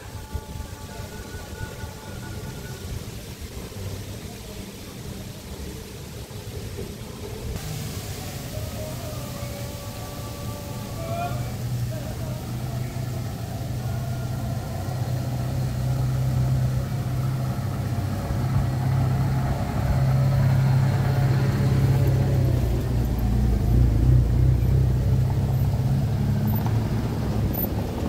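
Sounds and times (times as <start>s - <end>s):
cars driving on cobblestones: 0.0s - 28.0s
engine hum and tyre rumble: 0.0s - 28.0s.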